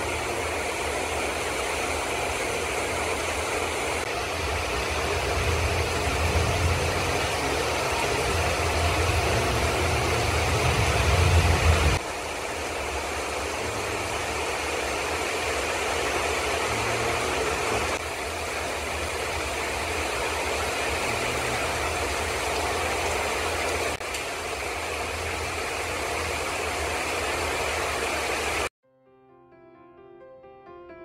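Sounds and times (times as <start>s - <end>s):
heavy rain pouring: 0.0s - 28.7s.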